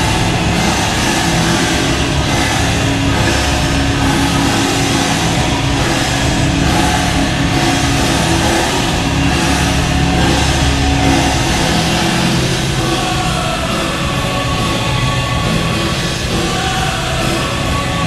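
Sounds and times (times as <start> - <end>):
loud rock music with drums: 0.0 - 18.0.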